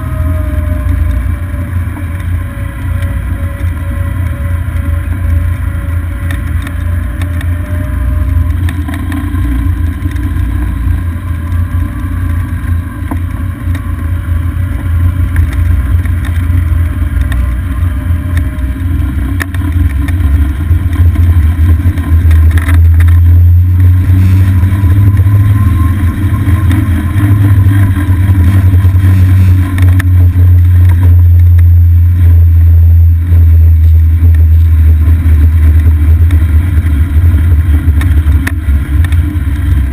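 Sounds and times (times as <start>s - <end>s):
golf cart rumble: 0.0s - 39.9s.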